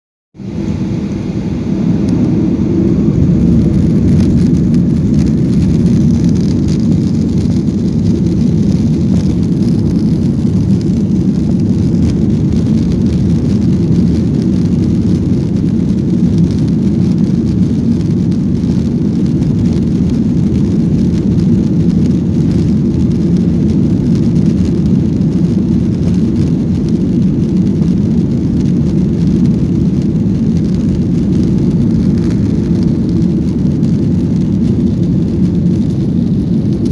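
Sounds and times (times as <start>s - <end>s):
airliner cabin engine roar: 0.4s - 36.9s.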